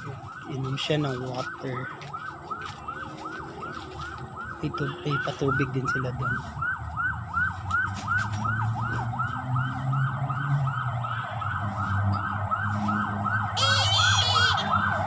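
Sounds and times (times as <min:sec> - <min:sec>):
electronic yelp siren: 0:00.0 - 0:15.0.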